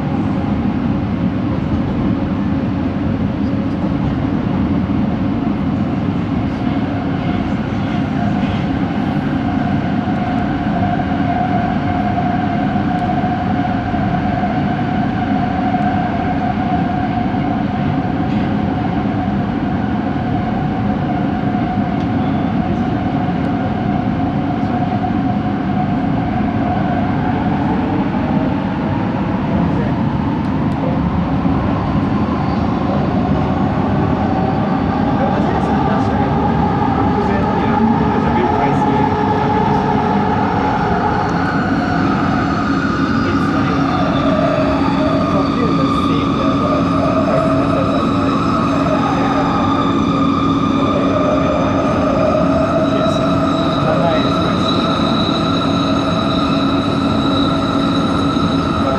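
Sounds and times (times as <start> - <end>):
train rolling noise: 0.0 - 58.9.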